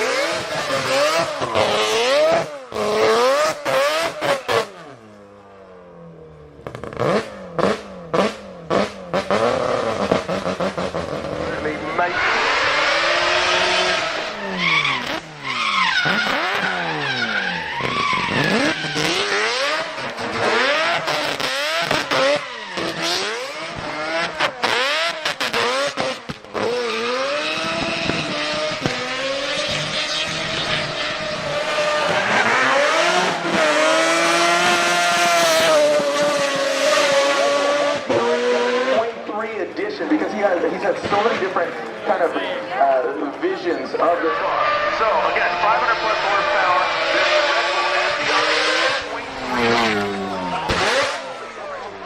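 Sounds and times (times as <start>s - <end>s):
car engine revving hard: 0.0s - 5.2s, 6.6s - 39.3s, 44.0s - 52.0s.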